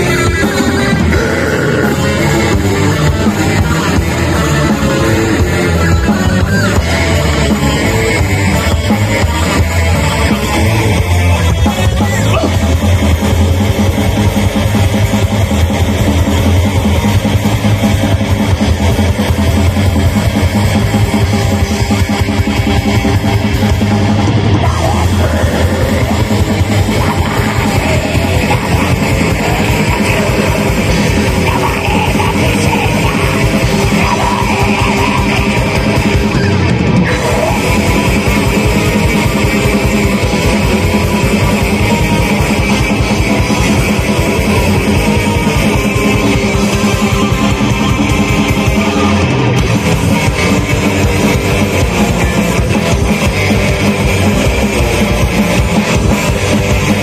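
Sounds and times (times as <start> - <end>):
distorted electric guitars: 0.0 - 57.0
fast drum-kit beats: 0.0 - 57.0.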